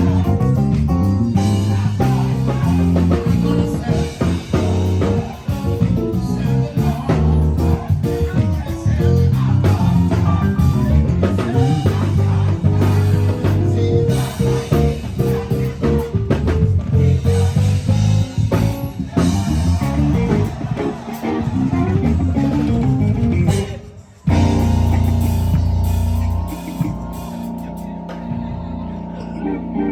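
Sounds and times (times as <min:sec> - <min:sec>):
live band playing: 0:00.0 - 0:29.9.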